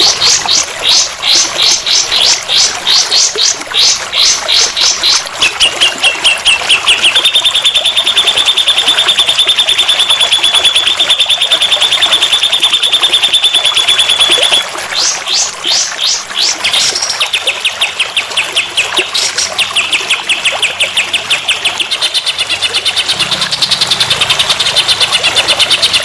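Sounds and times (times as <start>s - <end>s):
songbird buzzy trill: 0.0s - 26.0s.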